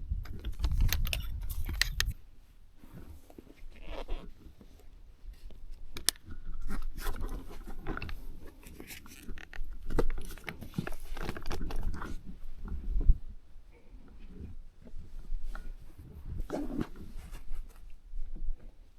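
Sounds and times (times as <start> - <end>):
crunching and rustling: 2.8 - 18.8.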